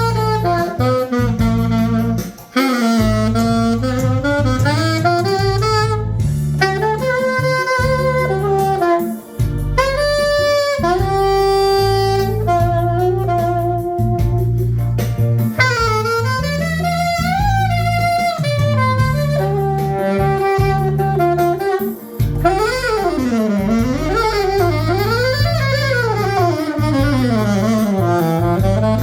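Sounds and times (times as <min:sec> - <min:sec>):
held bass notes: 0:00.0 - 0:29.0
saxophone improvising jazzy melody: 0:00.0 - 0:29.0.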